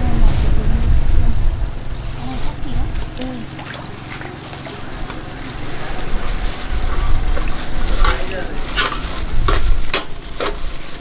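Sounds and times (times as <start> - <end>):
indistinct voices: 0.0 - 10.3
steady low rumble: 0.0 - 11.0.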